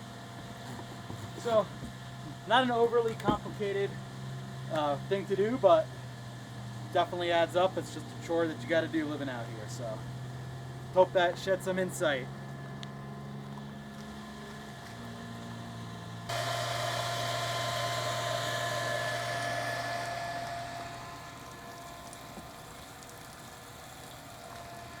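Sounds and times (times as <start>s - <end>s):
electric water pump humming: 0.0s - 25.0s.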